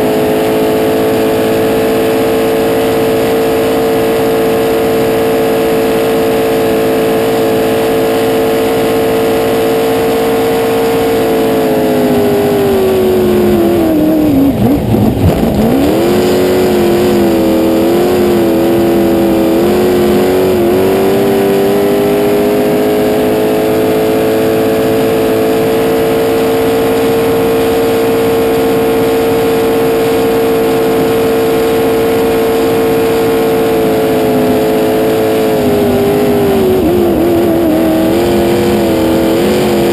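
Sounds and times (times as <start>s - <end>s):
boat engine at high revs: 0.0s - 39.9s.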